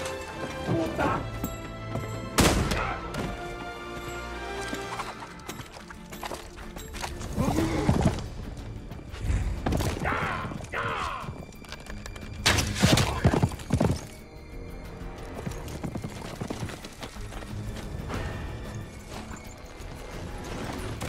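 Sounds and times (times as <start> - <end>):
orchestral film score: 0.0 - 21.0
galloping hooves: 3.0 - 21.0.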